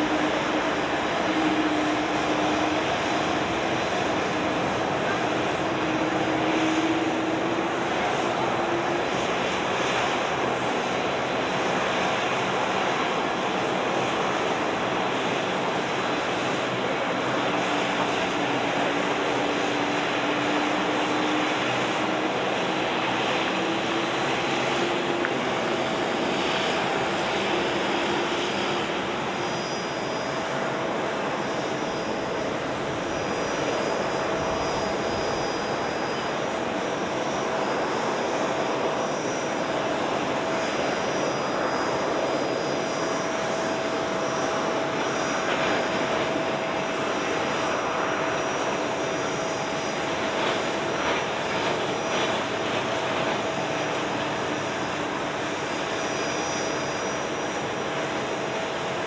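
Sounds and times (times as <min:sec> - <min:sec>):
jet engines taxiing: 0:00.0 - 0:59.0.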